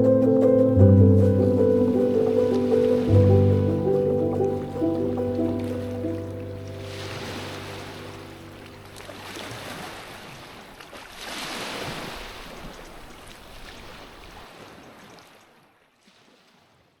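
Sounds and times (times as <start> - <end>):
sea waves washing on shore: 0.0 - 15.5.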